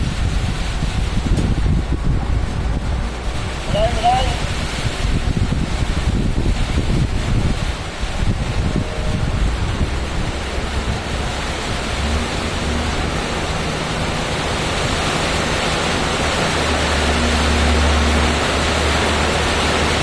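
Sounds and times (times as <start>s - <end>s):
low rumble: 0.0s - 20.0s
steady rain hiss: 0.0s - 20.0s.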